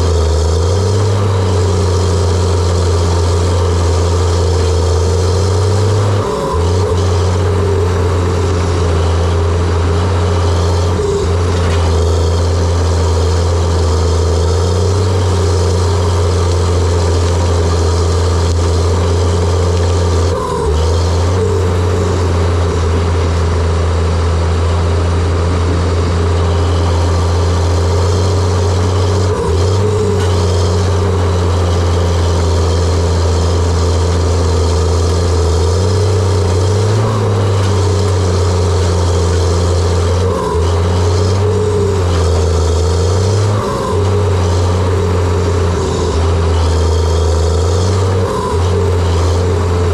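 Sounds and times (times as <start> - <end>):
bulldozer diesel engine droning: 0.0 - 49.9.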